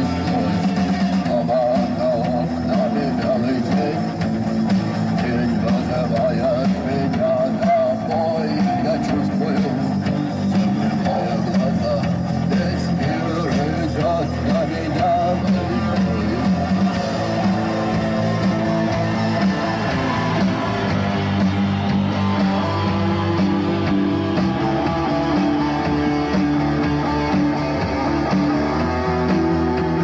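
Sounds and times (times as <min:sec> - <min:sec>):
lead guitar: 0:00.0 - 0:30.0
rock band playing live: 0:00.0 - 0:30.0.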